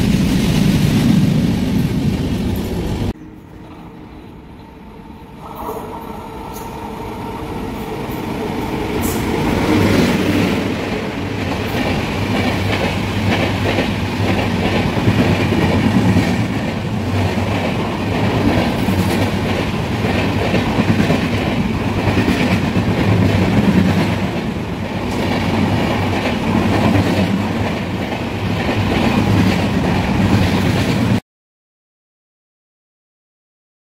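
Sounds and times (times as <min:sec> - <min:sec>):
train passing at speed: 0:00.0 - 0:31.2.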